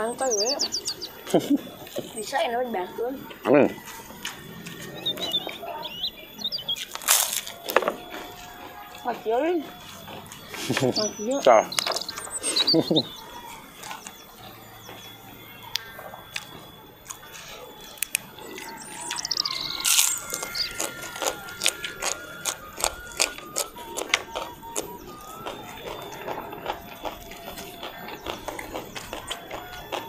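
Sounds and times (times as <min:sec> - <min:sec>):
high falling chirp: 0:00.0 - 0:30.0
crunchy chewing of raw vegetables: 0:03.2 - 0:30.0.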